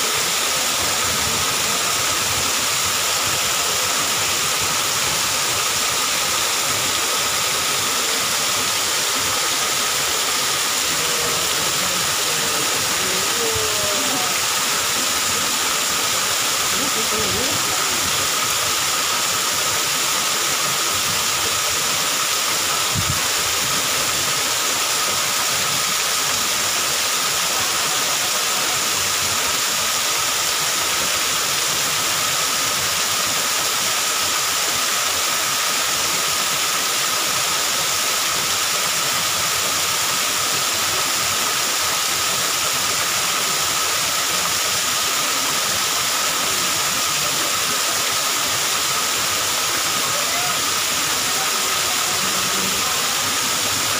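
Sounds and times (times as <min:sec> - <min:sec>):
waterfall splashing into pool: 0:00.0 - 0:53.9.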